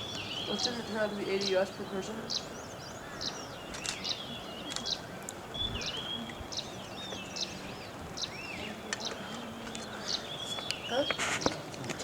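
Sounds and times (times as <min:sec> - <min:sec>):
small birds chirping: 0:00.0 - 0:12.0
steady low background noise: 0:00.0 - 0:12.0.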